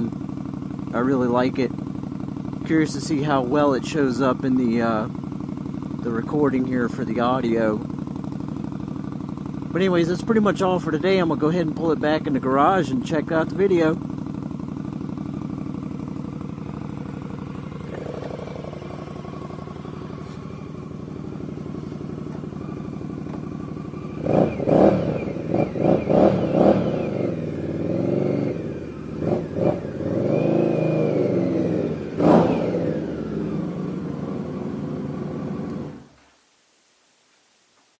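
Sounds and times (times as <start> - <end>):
motorcycle engine revving: 0.0 - 36.1
motorcycle engine idling: 0.0 - 36.2.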